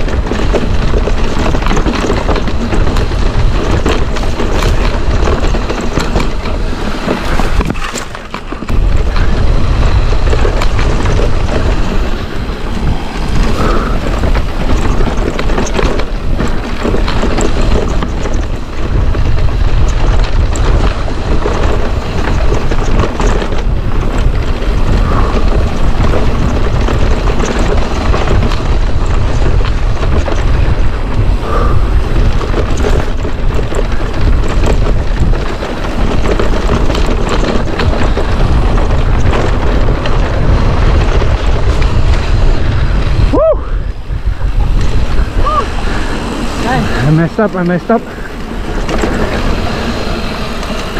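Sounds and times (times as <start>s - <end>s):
mountain bike rattling on rocks: 0.0s - 50.9s
wind buffeting microphone: 0.0s - 50.9s.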